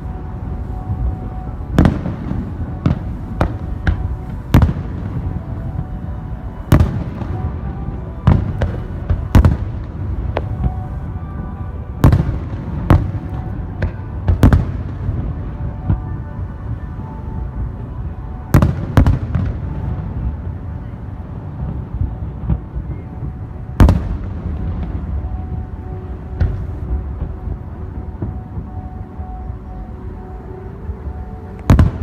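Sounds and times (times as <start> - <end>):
low background rumble: 0.0 - 32.0.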